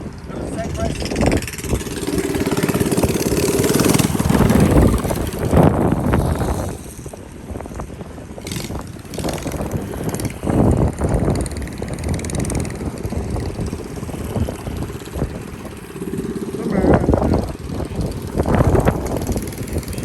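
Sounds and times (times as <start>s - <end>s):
mini bike engines running: 0.0s - 20.0s
wind gusting on microphone: 0.0s - 20.0s.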